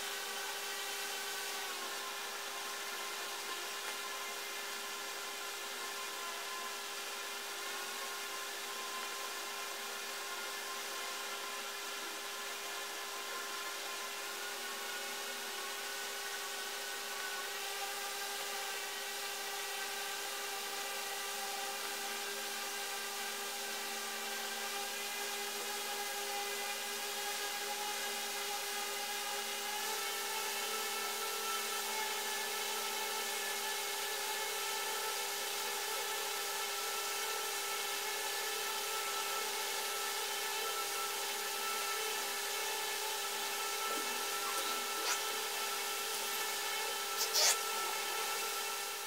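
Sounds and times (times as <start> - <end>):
small electric motor whirring: 0.0 - 49.0.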